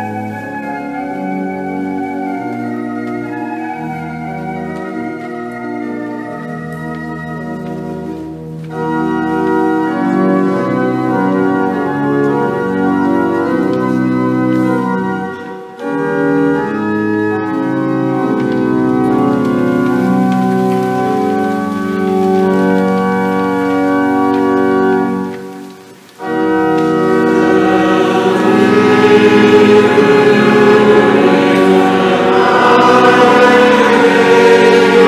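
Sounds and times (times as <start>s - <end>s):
pipe organ playing chords: 0.0s - 35.0s.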